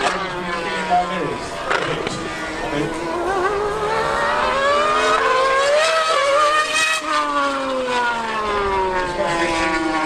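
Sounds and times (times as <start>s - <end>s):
high-revving racing engine: 0.0s - 10.0s.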